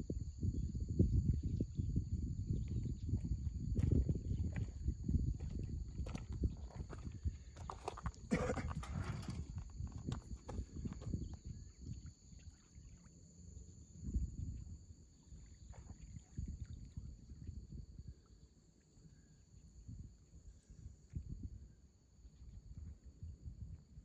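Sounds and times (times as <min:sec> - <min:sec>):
wind gusts on microphone: 0:00.0 - 0:12.2, 0:14.0 - 0:18.2, 0:19.9 - 0:24.0.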